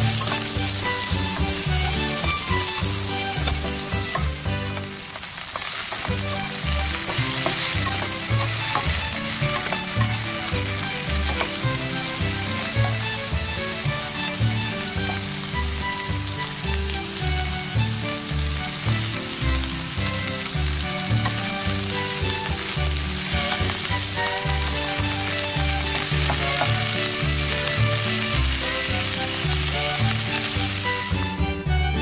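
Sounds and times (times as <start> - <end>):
spatula pushing food in pan: 0.0 - 31.2
vegetables sizzling in a pan: 0.0 - 31.7
background music: 0.0 - 32.0.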